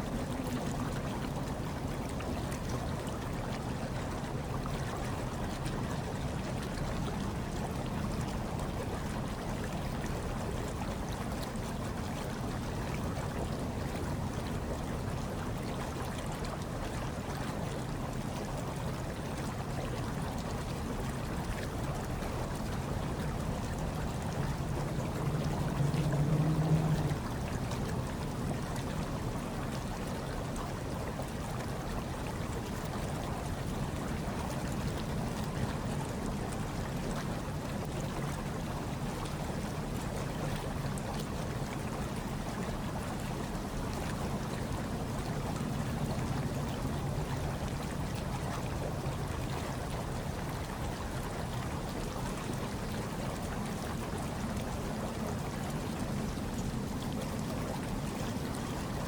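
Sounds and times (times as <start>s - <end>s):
hot tub water bubbling: 0.0s - 59.0s.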